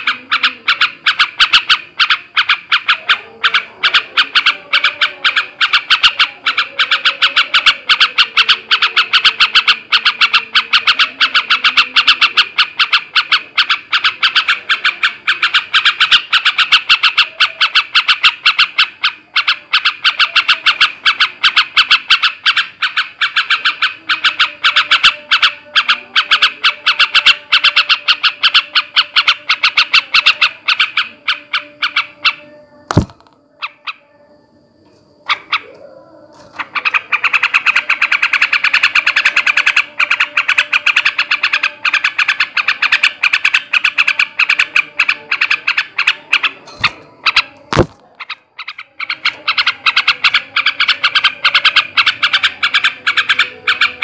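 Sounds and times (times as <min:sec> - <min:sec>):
bird chattering call: 0:00.0 - 0:34.3, 0:35.2 - 0:54.0.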